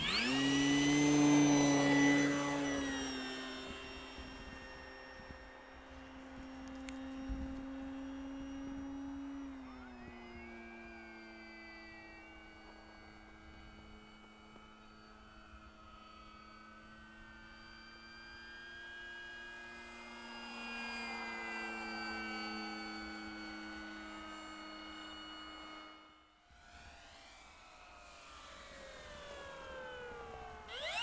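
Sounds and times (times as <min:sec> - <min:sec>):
model plane motor humming: 0:00.0 - 0:31.0.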